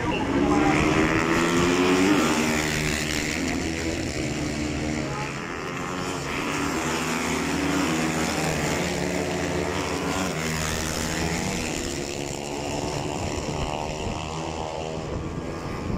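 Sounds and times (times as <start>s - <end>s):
motorcycles racing past: 0.0s - 15.9s.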